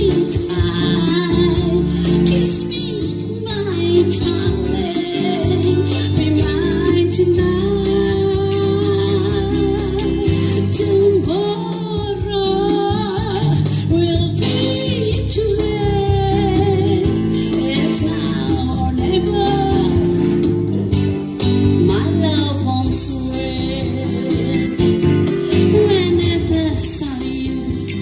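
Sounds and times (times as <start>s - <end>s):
woman singing: 0.0s - 20.7s, 21.6s - 28.0s
instrumental backing music: 0.0s - 28.0s.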